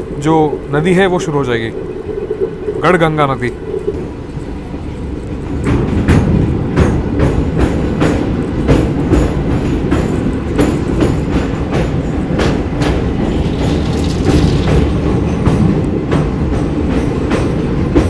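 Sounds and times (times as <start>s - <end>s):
train rumble on bridge: 0.0s - 18.0s
wheels clacking over rail joints: 0.0s - 18.0s.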